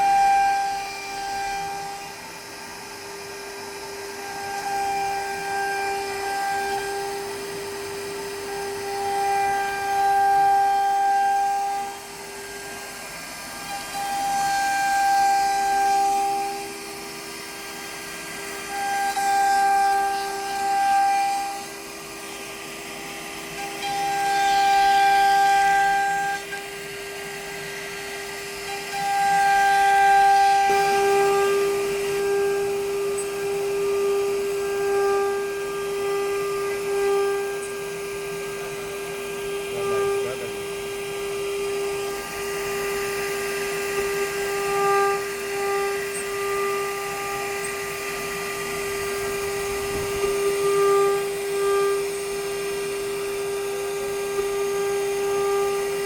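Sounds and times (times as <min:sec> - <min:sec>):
machine spindle whining: 0:00.0 - 0:56.0.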